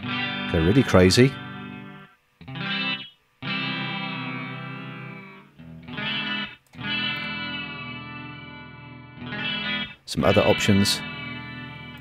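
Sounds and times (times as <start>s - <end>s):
guitar chords with wavering delay: 0.0s - 12.0s.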